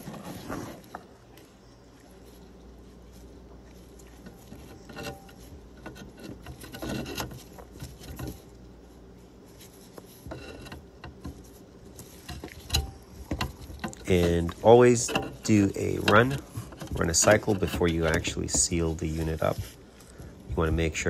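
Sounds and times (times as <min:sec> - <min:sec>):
gloved hands rubbing and scraping: 0:00.0 - 0:21.0.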